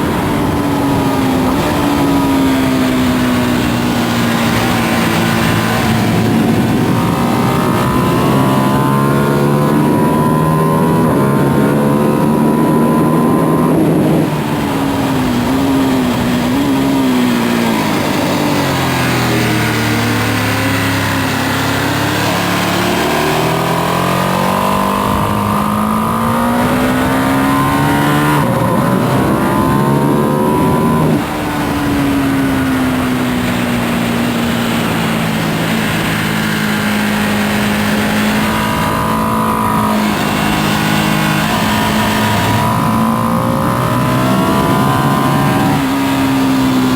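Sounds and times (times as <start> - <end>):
motorcycle engine revving: 0.0 - 46.9
wind noise: 0.0 - 46.9.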